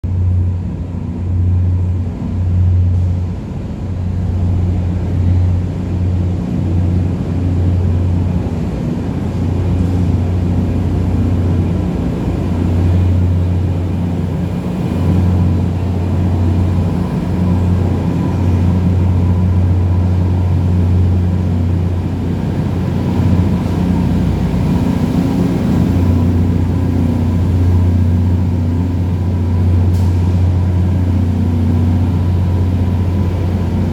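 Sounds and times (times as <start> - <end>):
train diesel engines humming: 0.0 - 33.9.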